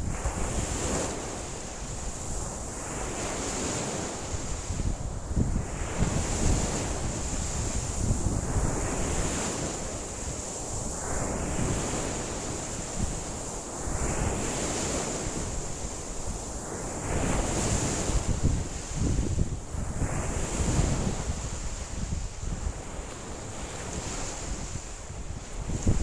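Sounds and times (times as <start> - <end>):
wind buffeting microphone: 0.0 - 12.2, 13.9 - 26.0.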